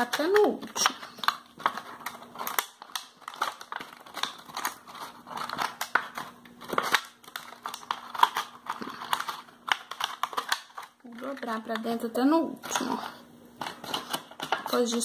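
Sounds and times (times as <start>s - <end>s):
plastic bottle crinkling: 0.0s - 12.0s, 12.6s - 15.0s.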